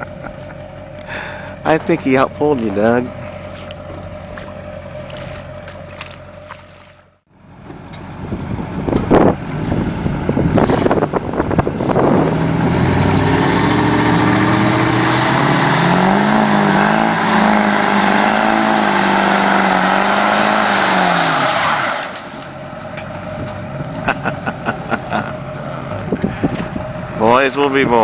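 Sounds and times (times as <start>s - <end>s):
truck engines revving under load: 0.0s - 28.0s.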